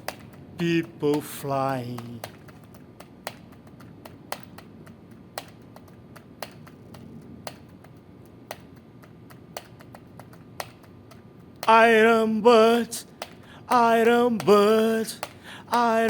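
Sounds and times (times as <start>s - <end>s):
faint ticks: 0.0s - 16.0s
sharp clicks in steady beat: 0.0s - 16.0s.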